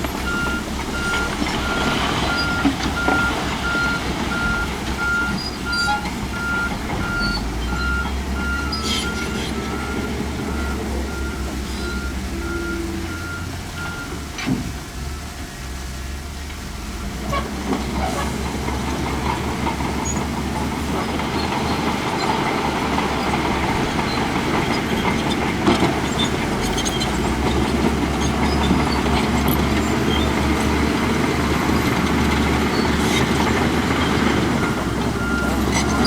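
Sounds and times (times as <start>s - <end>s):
diesel engine under load: 0.0s - 36.0s.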